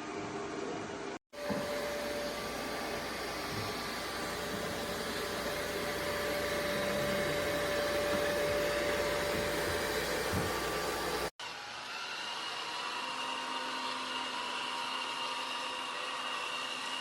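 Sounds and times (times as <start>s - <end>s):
robot vacuum whirring: 1.4s - 17.0s.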